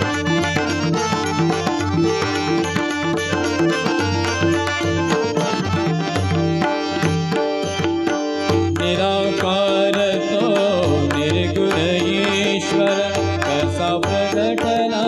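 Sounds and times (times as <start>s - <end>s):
tabla playing a steady rhythm: 0.0s - 15.0s.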